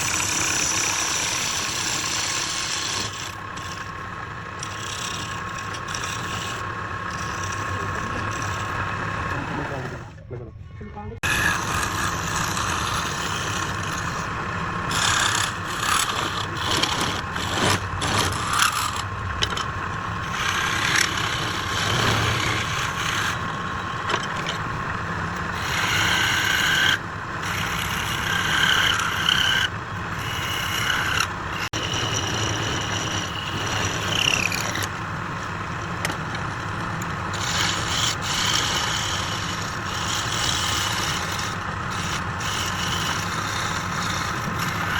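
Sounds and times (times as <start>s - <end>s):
turning tool scraping wood: 0.0s - 10.0s, 11.2s - 44.9s
wood lathe motor hum: 0.0s - 10.2s, 11.2s - 44.9s.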